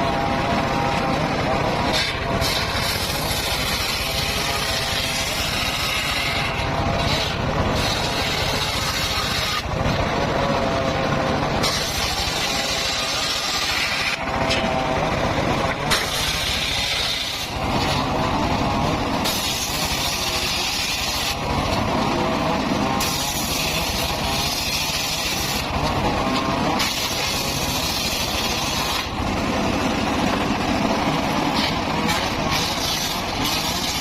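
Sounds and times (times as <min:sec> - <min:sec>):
circular saw cutting wood: 0:00.0 - 0:34.0.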